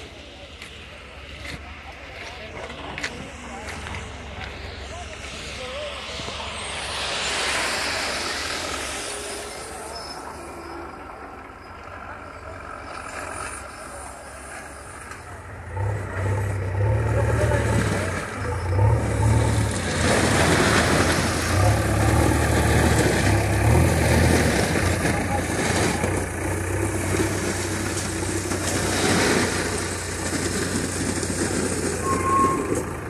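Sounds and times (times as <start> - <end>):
diesel engine running: 0.0 - 33.0
outdoor noise: 0.0 - 33.0.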